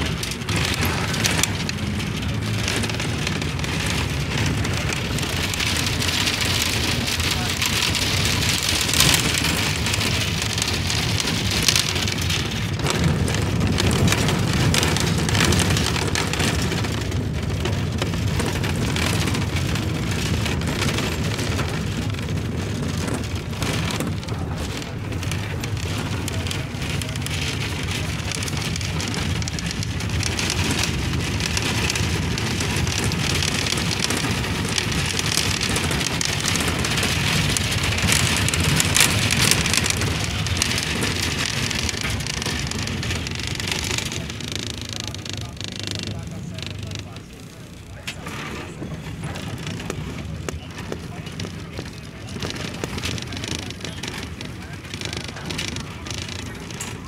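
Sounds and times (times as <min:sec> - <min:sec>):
bus engine and road rumble: 0:00.0 - 0:57.0
windows and panels rattling: 0:00.0 - 0:57.0.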